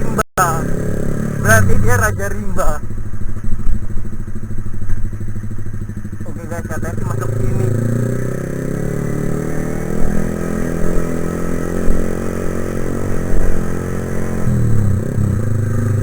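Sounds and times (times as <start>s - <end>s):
motorcycle engine riding: 0.0s - 16.0s.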